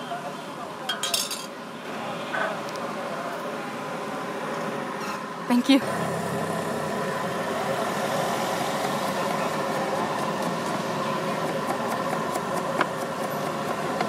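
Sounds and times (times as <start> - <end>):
street noise: 0.0 - 14.0.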